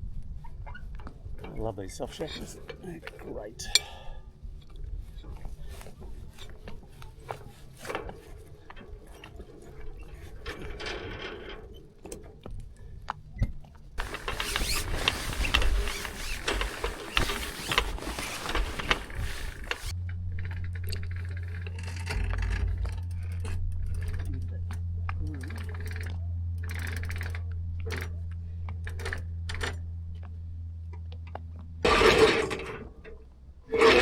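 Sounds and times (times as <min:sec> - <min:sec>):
steady low hum: 0:00.0 - 0:33.9
rigging hardware clicking and rattling: 0:00.8 - 0:30.3.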